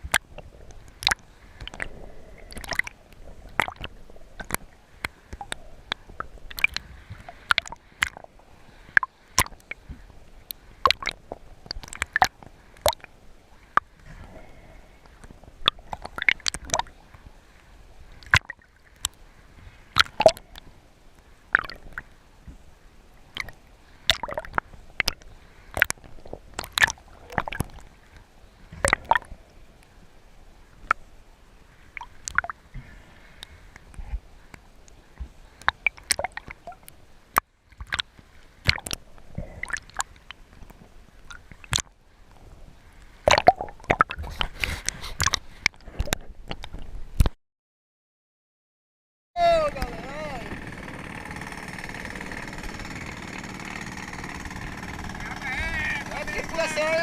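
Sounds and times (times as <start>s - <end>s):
water sloshing and gurgling: 0.0s - 47.4s, 49.8s - 55.4s.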